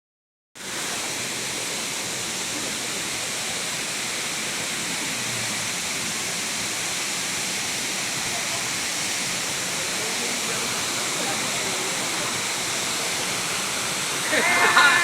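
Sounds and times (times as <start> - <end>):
waterfall rushing: 0.6 - 15.0.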